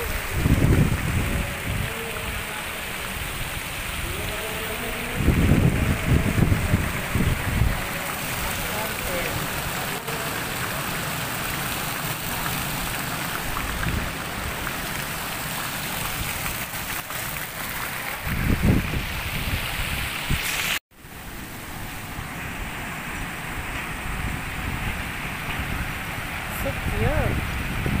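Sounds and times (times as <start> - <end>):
wind on microphone: 0.0 - 9.9, 12.8 - 15.1, 15.8 - 20.8, 21.8 - 28.0
fountain water splashing: 0.0 - 28.0
open-air background: 0.0 - 28.0.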